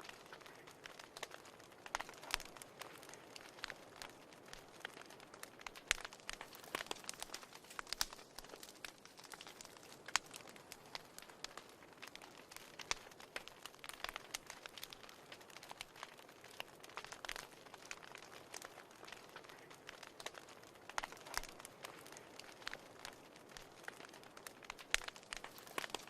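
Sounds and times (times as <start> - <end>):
soft fire hiss: 0.0 - 26.0
wood fire crackling and popping: 0.0 - 26.0.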